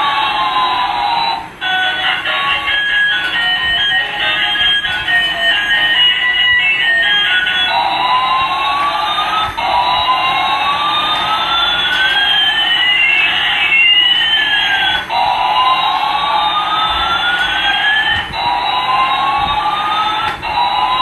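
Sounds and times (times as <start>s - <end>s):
toy airplane siren-like wailing tones: 0.0s - 21.0s.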